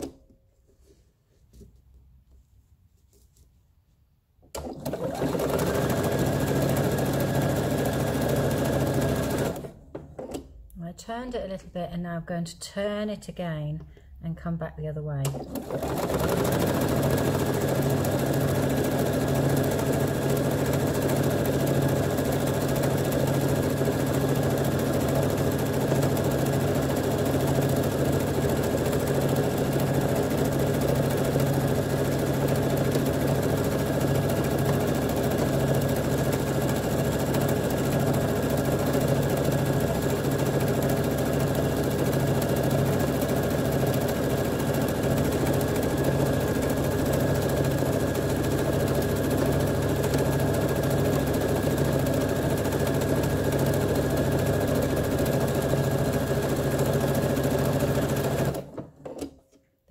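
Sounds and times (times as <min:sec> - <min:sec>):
electric sewing machine running: 0:04.6 - 0:09.8, 0:15.3 - 0:58.7.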